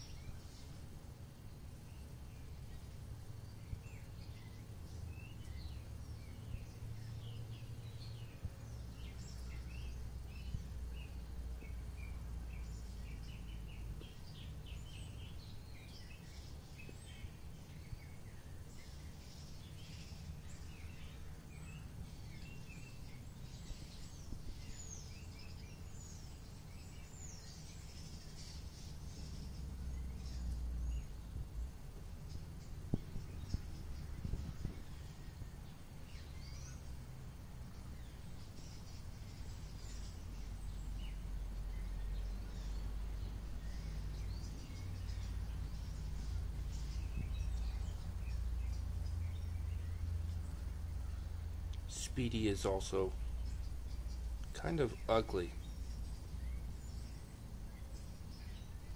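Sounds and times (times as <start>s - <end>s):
birds chirping: 0.0s - 58.9s
steady low rumble: 0.0s - 58.9s.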